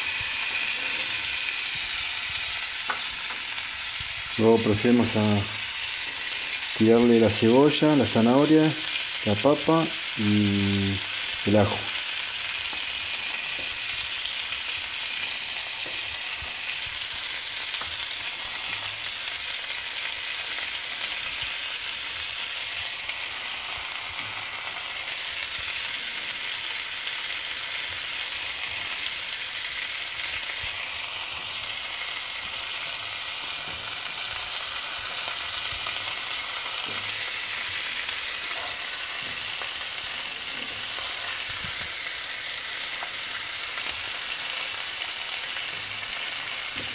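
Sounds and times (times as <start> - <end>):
meat frying on a griddle: 0.0 - 46.9.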